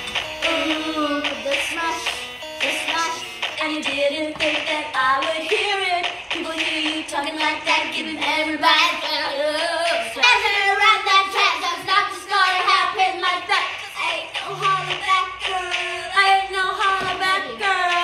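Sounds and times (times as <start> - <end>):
woman and girl singing pop: 0.1 - 18.0.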